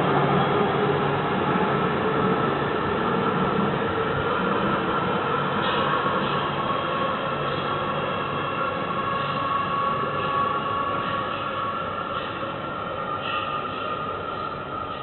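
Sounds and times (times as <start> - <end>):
train high whine: 0.0 - 15.0
train mechanical hum: 0.0 - 15.0.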